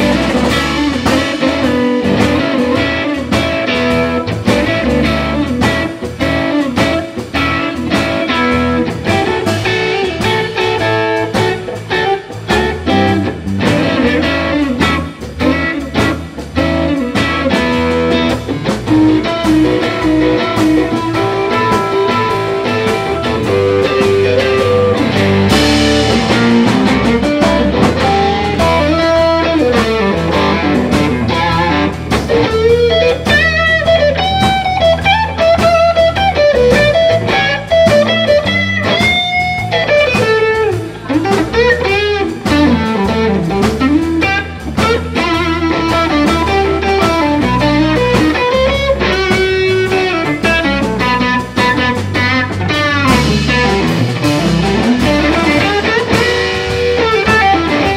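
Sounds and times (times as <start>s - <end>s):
bass and drums: 0.0s - 57.9s
electric guitar solo: 0.0s - 57.9s.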